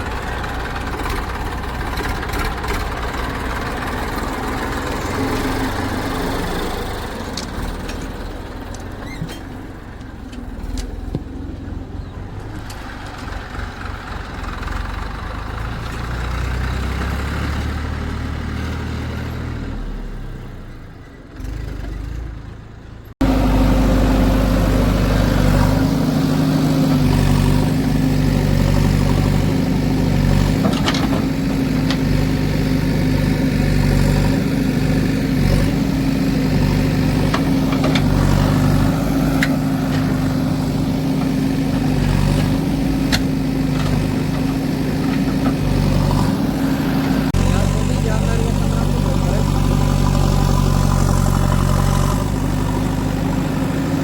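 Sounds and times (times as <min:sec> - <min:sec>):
diesel machinery running: 0:00.0 - 0:54.0
loud engine running close by: 0:00.0 - 0:54.0.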